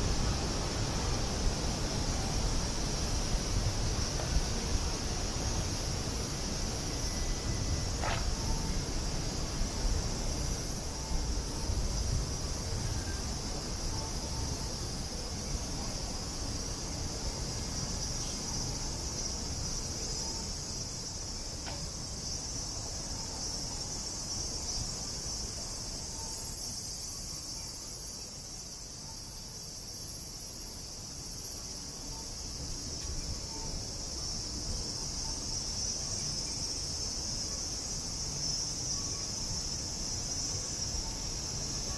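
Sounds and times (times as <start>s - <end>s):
cicadas droning: 0.0s - 41.9s.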